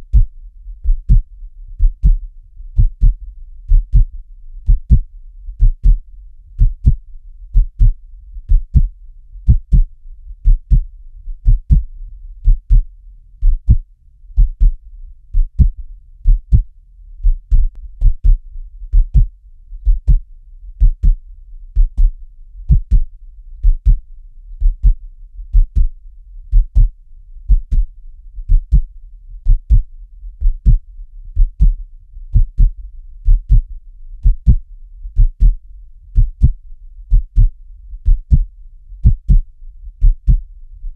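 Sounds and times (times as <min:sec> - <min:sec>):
heartbeat double thumps: 0:00.0 - 0:30.8, 0:31.4 - 0:40.9
faint low hum: 0:00.0 - 0:40.9.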